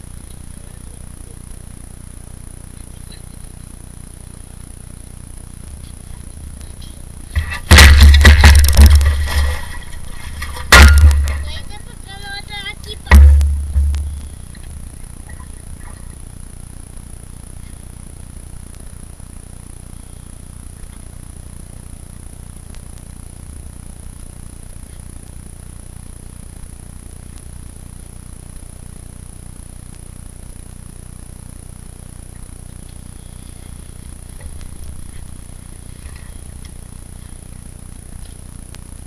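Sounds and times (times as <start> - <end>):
faint high-pitched whine: 0.0 - 39.0.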